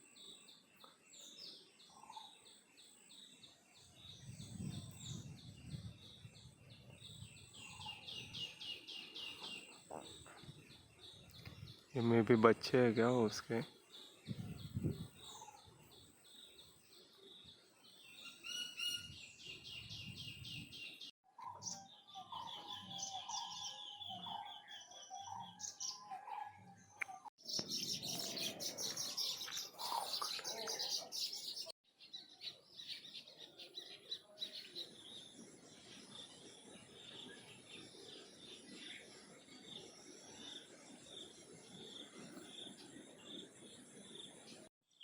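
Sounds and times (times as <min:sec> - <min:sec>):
birds chirping and calling: 0:01.2 - 0:44.7.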